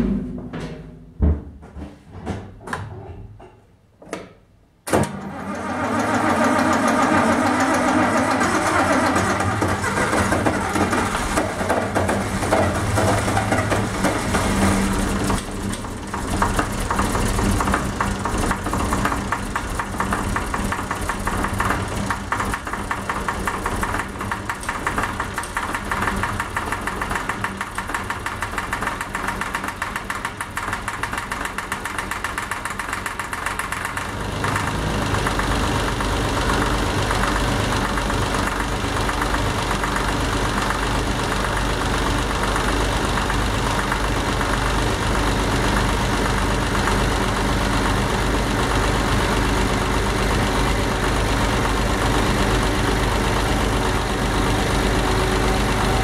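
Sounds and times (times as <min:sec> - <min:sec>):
tractor diesel engine running: 0:05.2 - 0:56.0.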